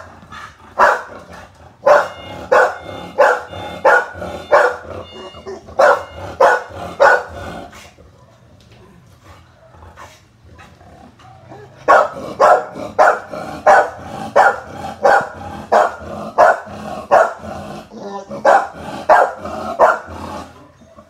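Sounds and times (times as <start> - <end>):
dog barking loudly: 0.0 - 7.7, 11.3 - 20.5.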